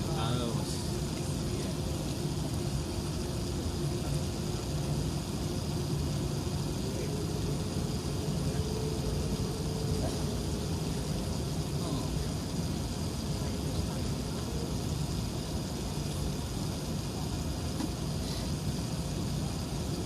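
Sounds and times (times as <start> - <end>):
aircraft engine drone: 0.0 - 20.0
cabin air hiss: 0.0 - 20.0.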